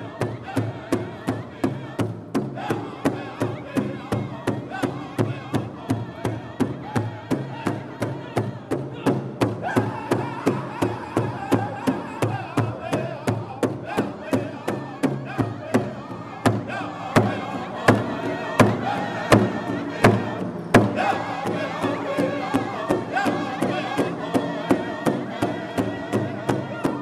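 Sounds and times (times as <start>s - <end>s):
large drum beating: 0.0s - 27.0s
men singing in unison: 0.0s - 27.0s.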